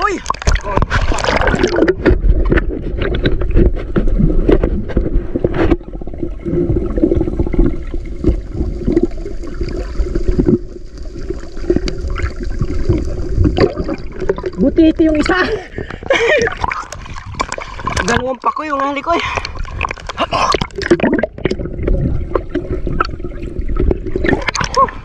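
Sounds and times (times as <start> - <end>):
underwater water rushing: 0.0 - 25.0.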